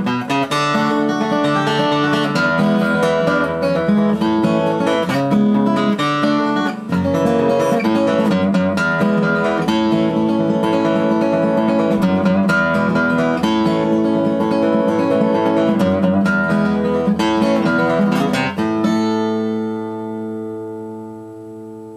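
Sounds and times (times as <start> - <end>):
acoustic guitar fingerpicked and strummed: 0.0 - 21.9.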